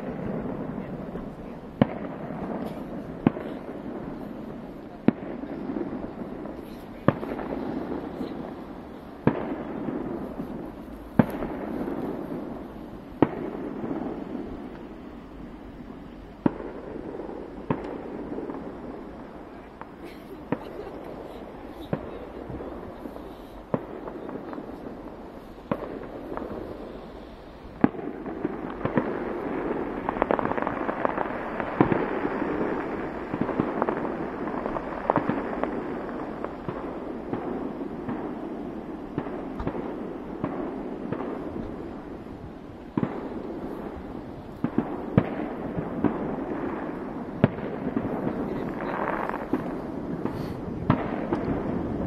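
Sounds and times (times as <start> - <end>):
firework bangs: 0.0 - 52.0
fireworks crackling: 0.0 - 52.0.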